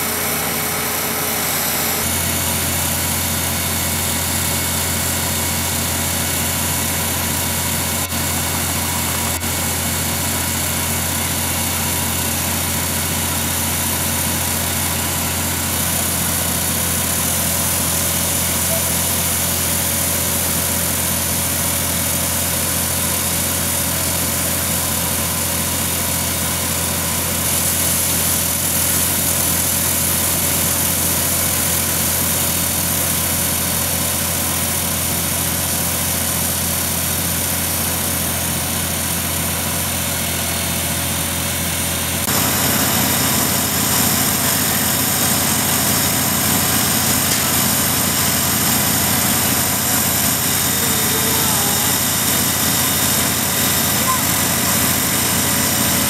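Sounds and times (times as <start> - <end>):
wire saw cutting concrete: 0.0 - 40.0, 42.1 - 56.0.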